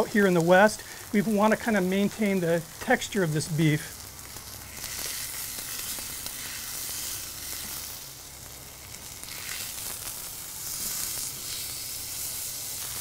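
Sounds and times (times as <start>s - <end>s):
steak sizzling on griddle: 0.0s - 13.0s.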